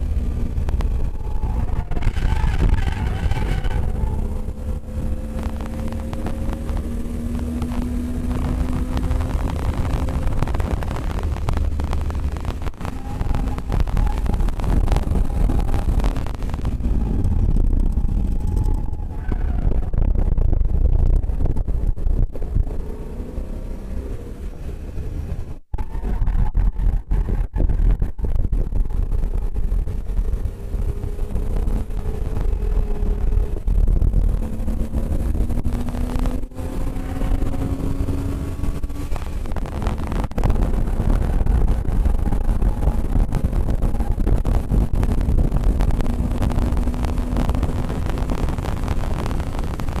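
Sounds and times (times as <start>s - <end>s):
car engine pulling hard: 0.0s - 50.0s
road and wind rumble: 0.0s - 50.0s.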